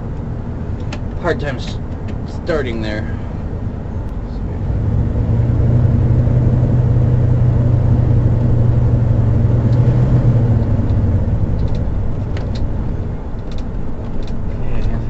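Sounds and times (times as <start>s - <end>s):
motorhome engine droning: 0.0s - 15.0s.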